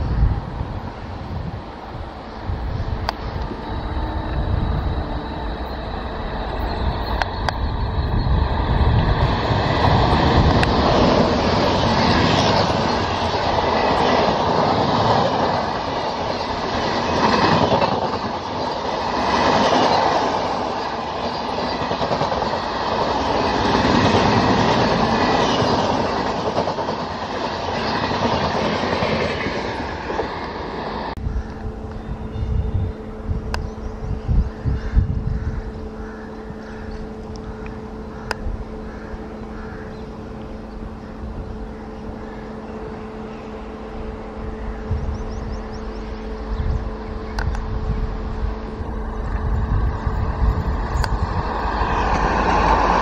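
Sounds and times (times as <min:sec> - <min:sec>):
train coaches passing at speed: 0:00.0 - 0:53.0.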